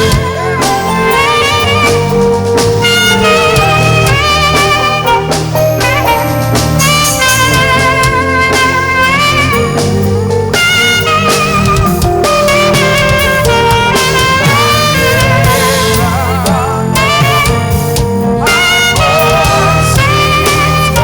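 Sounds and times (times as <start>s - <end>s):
band with drum kit: 0.0s - 21.0s
saxophone melody with vibrato: 0.0s - 21.0s.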